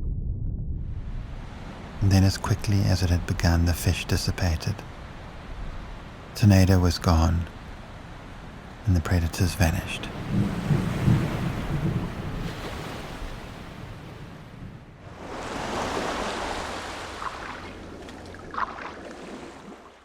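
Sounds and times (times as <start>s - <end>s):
sea waves washing: 1.1s - 20.0s.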